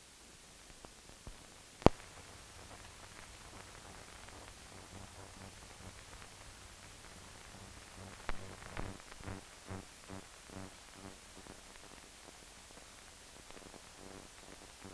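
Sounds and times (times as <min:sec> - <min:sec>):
film soundtrack hiss: 0:00.0 - 0:14.9.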